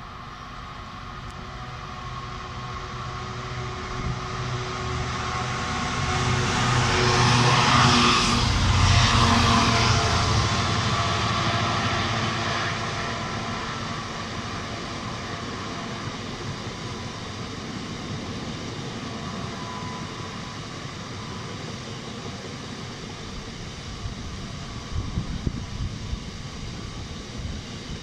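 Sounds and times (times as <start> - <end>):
diesel locomotive engine running: 0.0 - 28.0.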